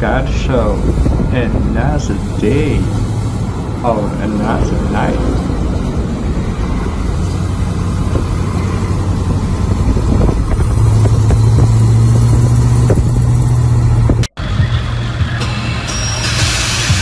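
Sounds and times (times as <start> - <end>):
car engine droning: 0.0 - 17.0
outdoor noise: 0.0 - 17.0.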